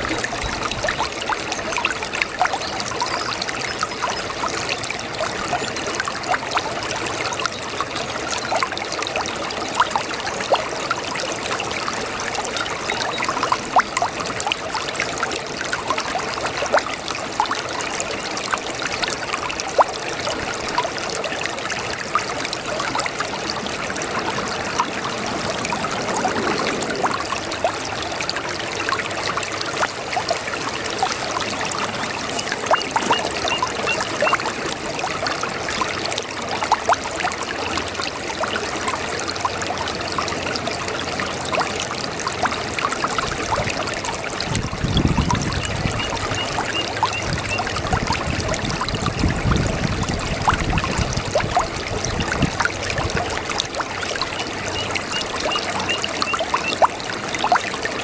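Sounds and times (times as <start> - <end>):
brook babbling: 0.0 - 58.0.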